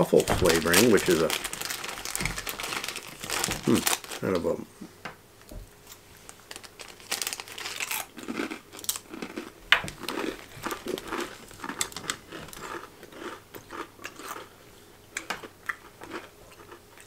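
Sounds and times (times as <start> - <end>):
potato crisps crunching: 0.0 - 4.5, 5.9 - 17.0.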